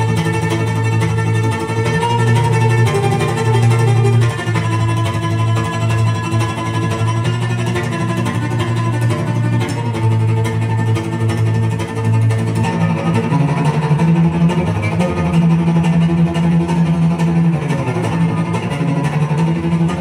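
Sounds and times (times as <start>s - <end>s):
string instruments playing low notes: 0.0s - 20.0s.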